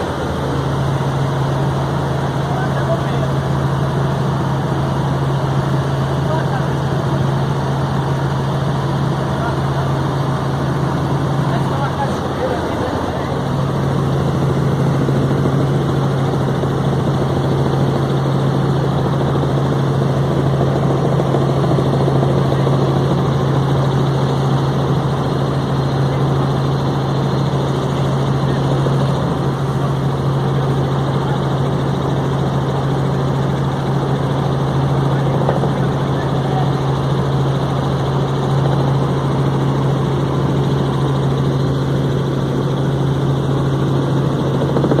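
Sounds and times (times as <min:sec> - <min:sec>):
helicopter rotor and turbine: 0:00.0 - 0:45.0.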